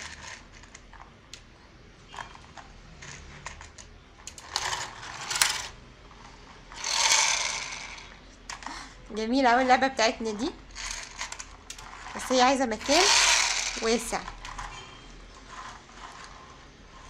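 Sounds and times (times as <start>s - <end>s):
toy gear mechanism whirring: 0.0s - 1.4s, 2.2s - 5.7s, 6.7s - 8.8s, 10.4s - 17.0s.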